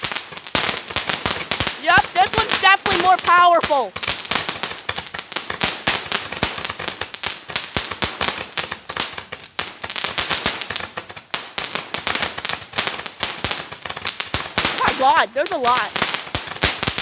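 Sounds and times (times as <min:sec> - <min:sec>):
firecrackers banging: 0:00.0 - 0:17.0.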